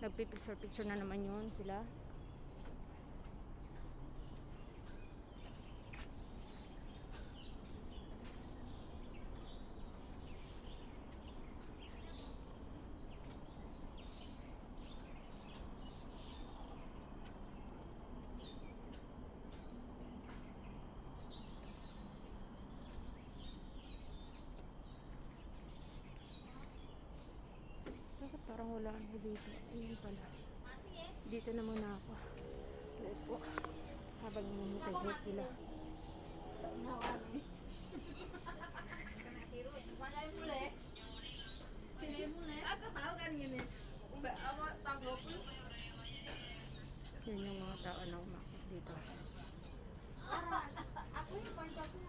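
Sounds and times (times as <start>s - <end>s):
low outdoor background noise: 0.0s - 52.0s
small birds chirping: 0.0s - 52.0s.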